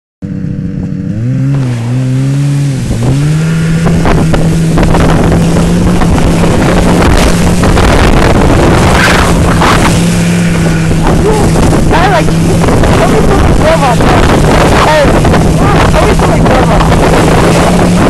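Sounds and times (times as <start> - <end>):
snowmobile engine revving: 0.3 - 18.0
wind on microphone: 1.2 - 18.0
sled rushing over snow: 1.3 - 18.0.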